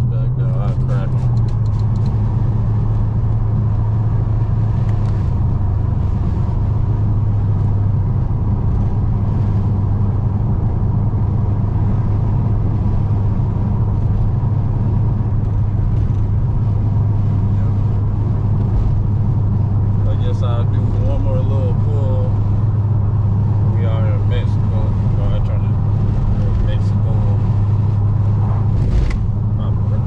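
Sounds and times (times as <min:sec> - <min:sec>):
car exhaust droning: 0:00.0 - 0:30.0.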